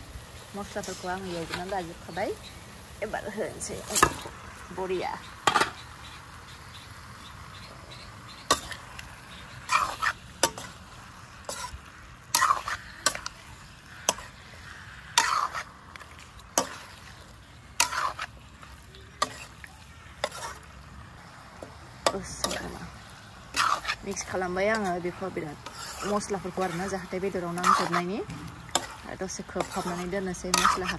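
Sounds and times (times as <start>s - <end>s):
frying sizzle: 0.0s - 30.9s
metal ladle scraping wok: 0.5s - 4.4s, 7.6s - 30.9s.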